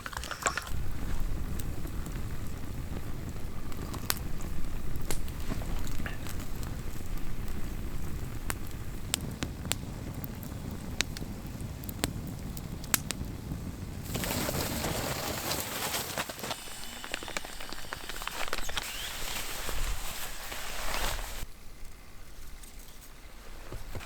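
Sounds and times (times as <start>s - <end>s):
campfire crackling: 0.0s - 24.0s
steady hiss: 0.0s - 24.0s
sharp fire pops: 0.7s - 21.5s.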